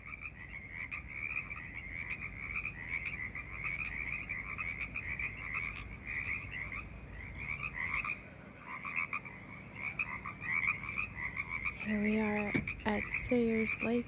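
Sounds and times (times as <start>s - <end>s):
chorus of frogs croaking: 0.0s - 14.0s.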